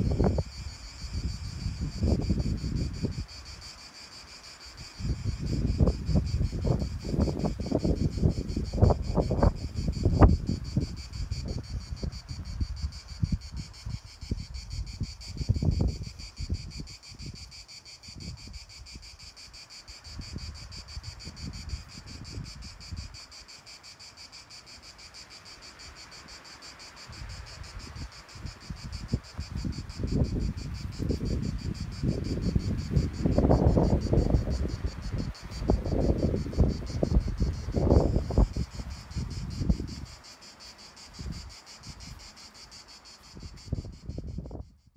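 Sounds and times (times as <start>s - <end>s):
wind buffeting microphone: 0.0s - 3.7s, 4.9s - 19.2s, 20.1s - 23.2s, 27.1s - 40.2s, 41.0s - 42.2s, 43.2s - 44.9s
insects chirring: 0.0s - 44.9s.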